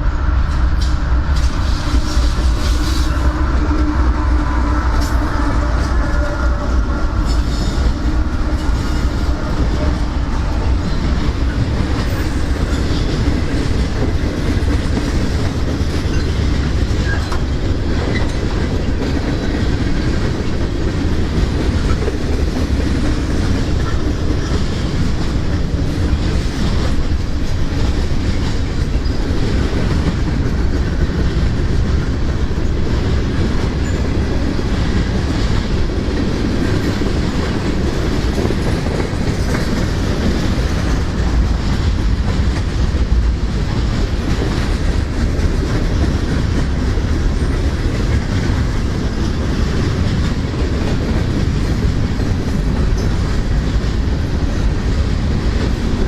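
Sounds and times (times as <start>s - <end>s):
clickety-clack over rail joints: 0.0s - 56.0s
freight train wheels rumbling: 0.0s - 56.0s.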